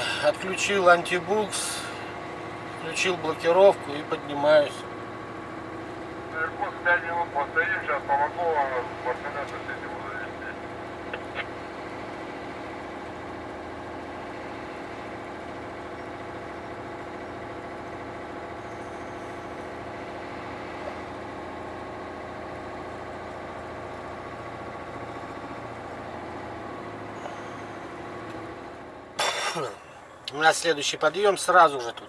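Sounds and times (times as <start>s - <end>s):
truck diesel engine from cab: 0.0s - 32.0s.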